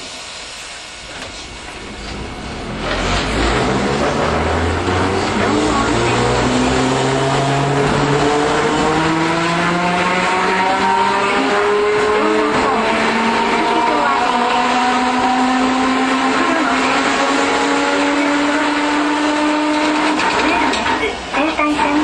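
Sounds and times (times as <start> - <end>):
tram running noise: 0.0 - 15.3, 18.8 - 22.0
traction motor whine rising: 1.2 - 21.1.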